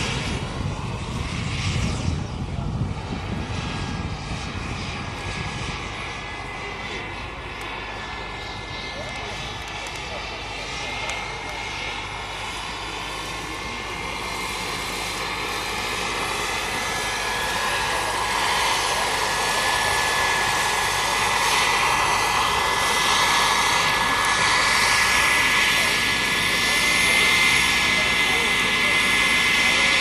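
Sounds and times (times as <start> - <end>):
model helicopter turbine whine: 0.0 - 30.0.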